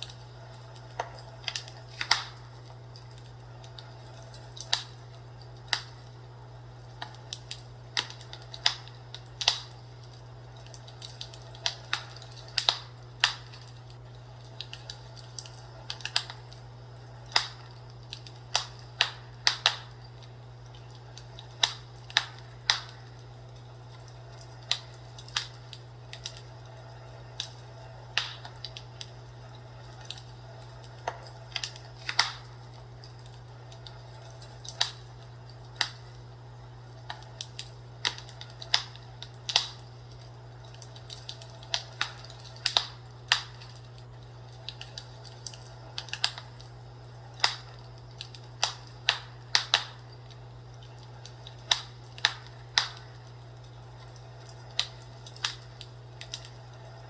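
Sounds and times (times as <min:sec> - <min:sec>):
fireplace wood crackling: 0:00.0 - 0:57.0
steady low hum: 0:00.0 - 0:57.0.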